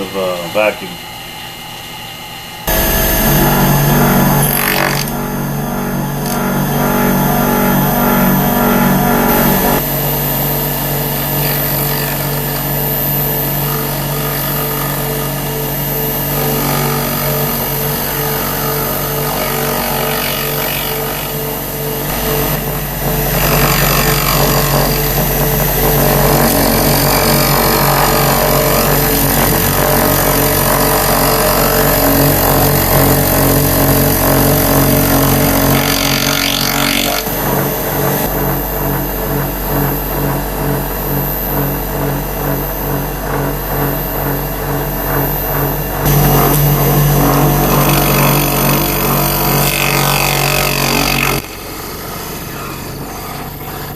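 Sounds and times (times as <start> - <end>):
high steady whine: 0.0 - 53.9
vacuum pump humming: 1.0 - 53.9
router spindle cutting metal: 2.7 - 42.1, 42.7 - 53.9.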